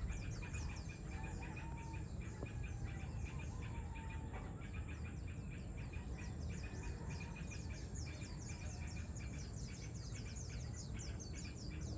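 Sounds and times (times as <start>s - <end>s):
low background rumble: 0.0s - 11.9s
small birds chirping: 0.0s - 11.9s.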